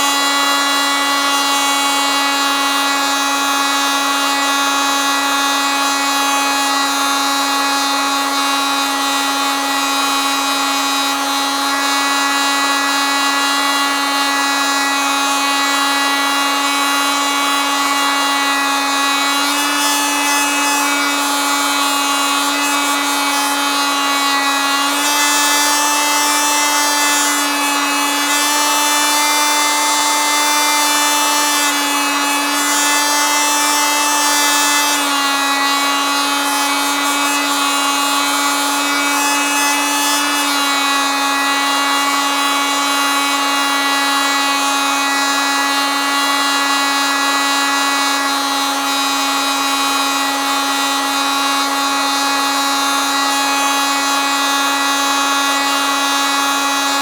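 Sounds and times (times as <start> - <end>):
oscillating multitool buzzing: 0.0 - 57.0.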